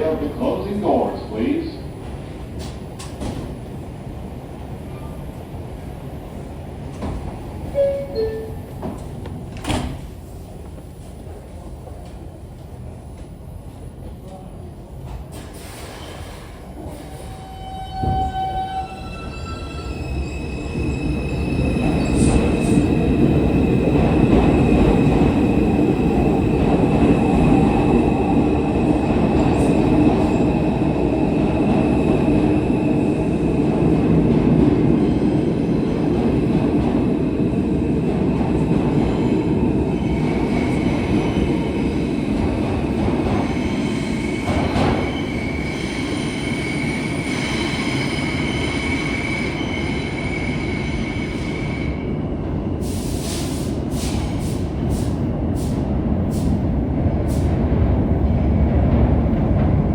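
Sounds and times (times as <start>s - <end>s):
subway train rumble: 0.0s - 59.9s.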